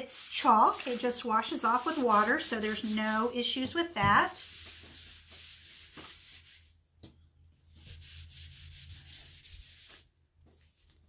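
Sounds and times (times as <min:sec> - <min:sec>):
wipe rubbing over a screen: 0:00.0 - 0:03.4, 0:04.2 - 0:06.7, 0:07.7 - 0:11.0.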